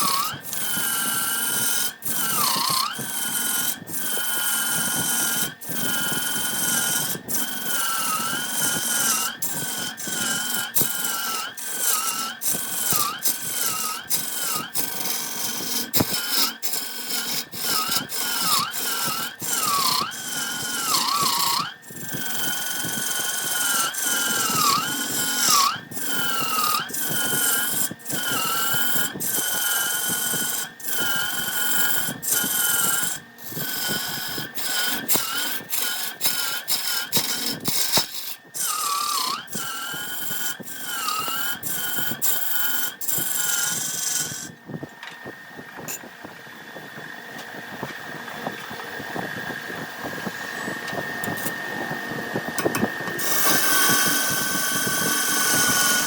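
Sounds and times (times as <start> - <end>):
lathe motor whine: 0.0 - 56.0
turning tool cutting wood: 0.0 - 56.0.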